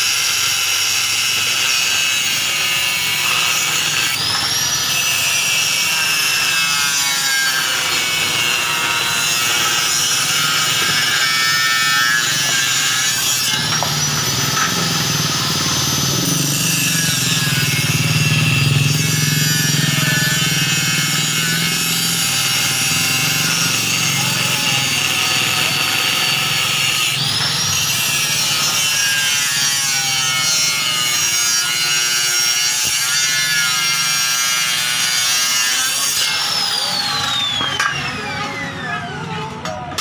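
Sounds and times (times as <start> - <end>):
power tool grinding: 0.0 - 40.0.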